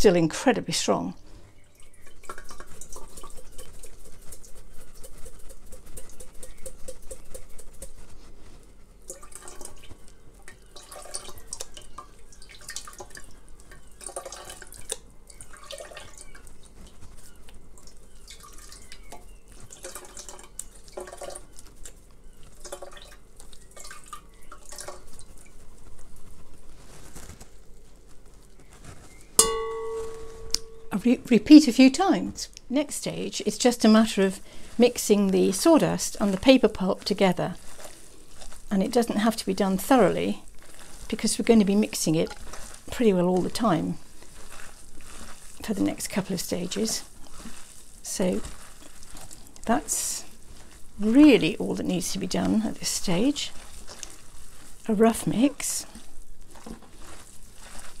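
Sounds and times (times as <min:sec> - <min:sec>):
wet pulp squelching: 0:01.2 - 0:58.0
water trickling into a pot: 0:01.5 - 0:27.7, 0:29.4 - 0:58.0
water dripping: 0:01.6 - 0:08.1, 0:09.0 - 0:26.8, 0:29.4 - 0:58.0.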